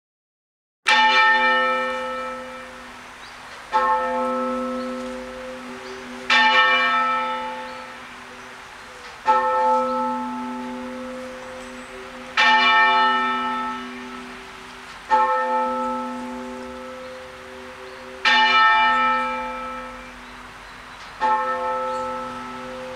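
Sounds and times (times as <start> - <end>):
church bell tolling half-muffled: 0.9 - 3.0, 3.7 - 20.4, 21.2 - 22.9.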